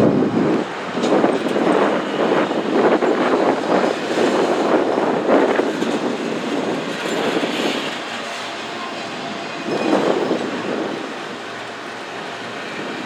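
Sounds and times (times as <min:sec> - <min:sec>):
train wheels clattering over rails: 0:00.3 - 0:13.0.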